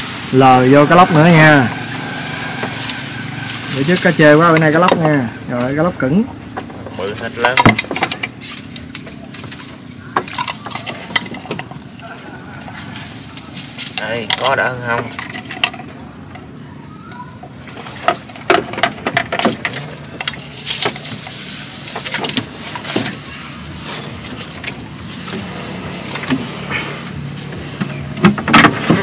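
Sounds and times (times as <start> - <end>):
water splashing: 0.0 - 27.5
fish traps knocking and clattering: 1.8 - 29.0.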